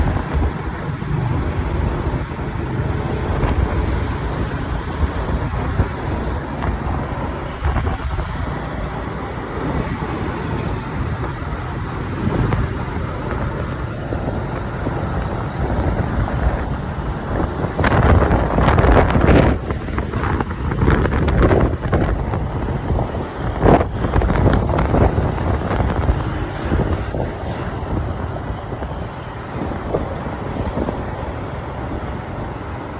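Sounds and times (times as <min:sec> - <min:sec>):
vehicle road noise: 0:00.0 - 0:32.9
wind buffeting microphone: 0:00.0 - 0:32.9.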